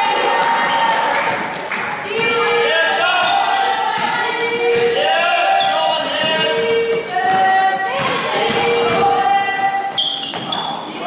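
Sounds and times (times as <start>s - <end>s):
group singing long notes: 0.0s - 10.2s.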